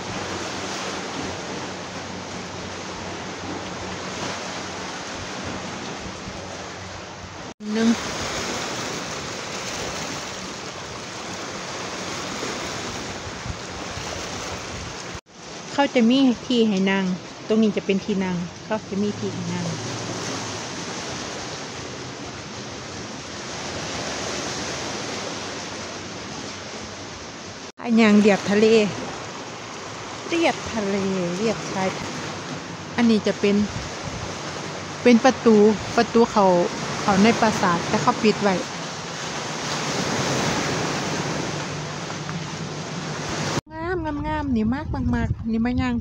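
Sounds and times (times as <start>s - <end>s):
sea waves washing on shore: 0.0s - 43.6s
wind: 0.0s - 46.0s.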